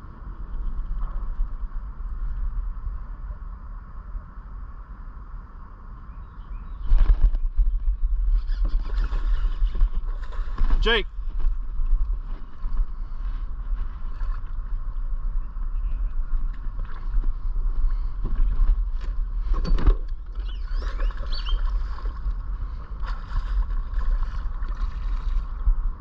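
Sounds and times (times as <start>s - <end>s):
water noise from boat: 0.0s - 26.0s
wind rumbling on microphone: 0.0s - 26.0s.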